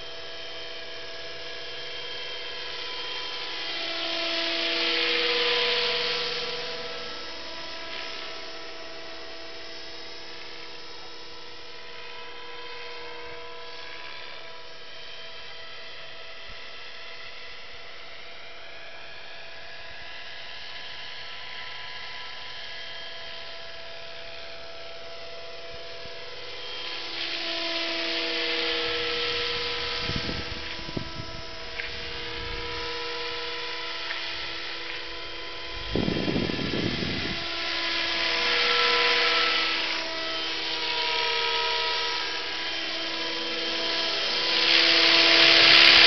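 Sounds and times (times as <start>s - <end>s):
rc helicopter motor and rotor whine: 0.0s - 46.0s.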